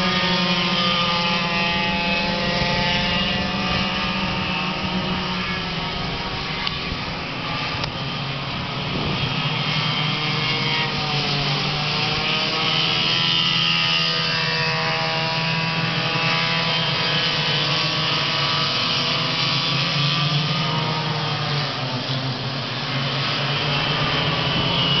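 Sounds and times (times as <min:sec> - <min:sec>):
go-kart engines at high revs: 0:00.0 - 0:25.0.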